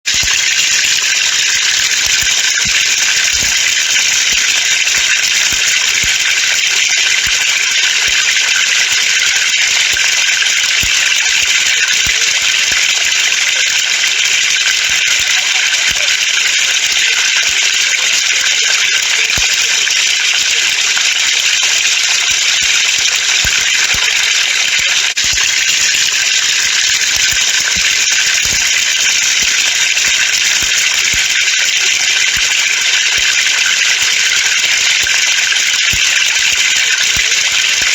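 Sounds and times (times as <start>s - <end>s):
water splashing from a pipe: 0.1s - 37.9s.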